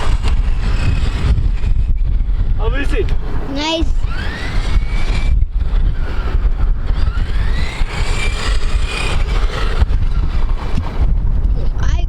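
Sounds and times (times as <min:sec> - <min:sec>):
electric rc car motor whining: 0:00.0 - 0:11.9
wind on microphone: 0:00.0 - 0:12.0.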